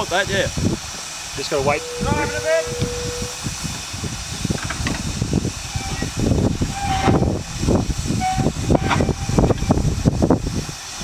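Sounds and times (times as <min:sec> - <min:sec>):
steam engine exhaust chuffs: 0:00.0 - 0:11.0.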